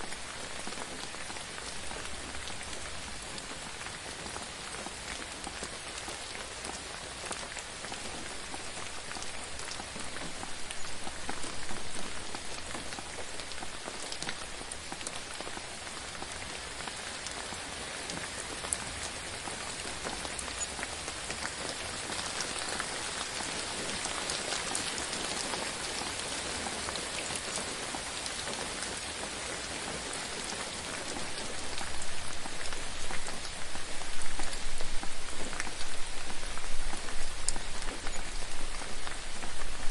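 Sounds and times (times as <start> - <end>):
gentle rainfall: 0.0 - 39.9.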